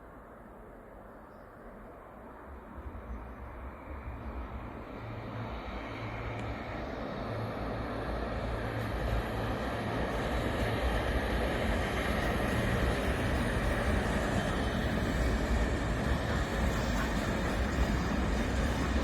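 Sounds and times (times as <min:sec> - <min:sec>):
train rumble: 0:01.9 - 0:19.0.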